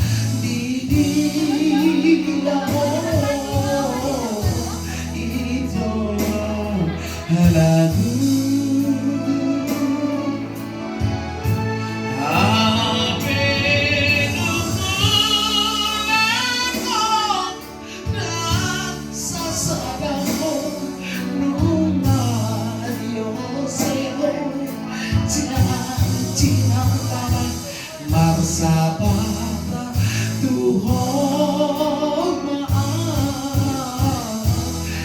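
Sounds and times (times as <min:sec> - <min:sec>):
high voice singing with vibrato: 0:00.0 - 0:35.0
low musical accompaniment: 0:00.0 - 0:35.0.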